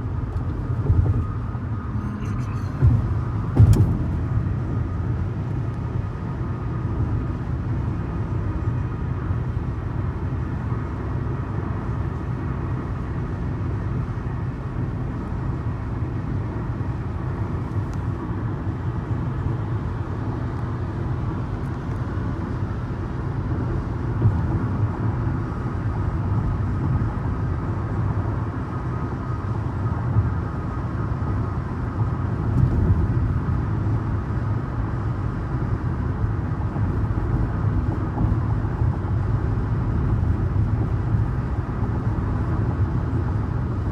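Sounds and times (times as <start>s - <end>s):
car cruising on highway: 0.0s - 43.9s.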